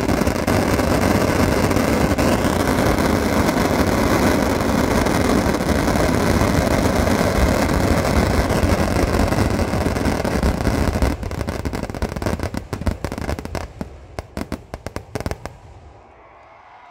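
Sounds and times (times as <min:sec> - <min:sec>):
firecrackers going off: 0:00.0 - 0:16.1.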